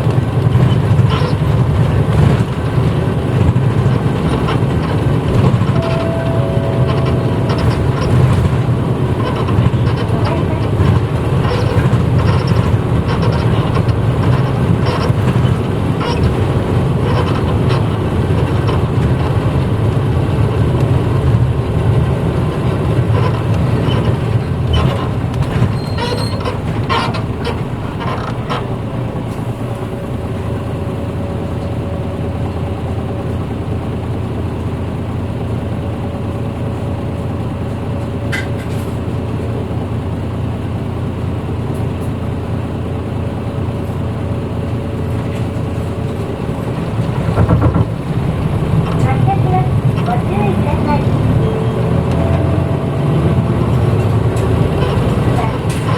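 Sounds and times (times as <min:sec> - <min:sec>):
bus engine running: 0:00.0 - 0:55.9.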